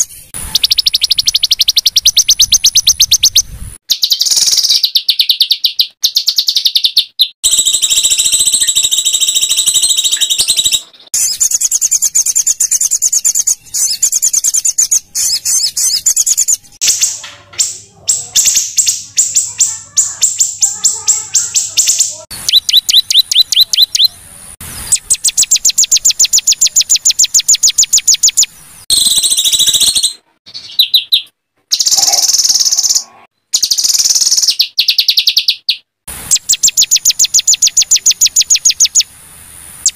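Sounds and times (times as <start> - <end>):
songbirds harsh rapid calls: 0.0 - 39.1.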